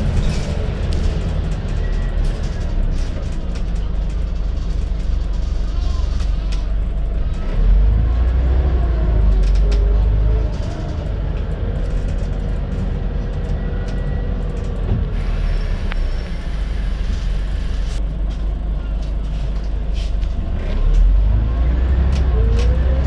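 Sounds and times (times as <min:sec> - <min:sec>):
gearbox whine: 0:00.0 - 0:22.9
bus diesel engine drone: 0:00.0 - 0:23.0.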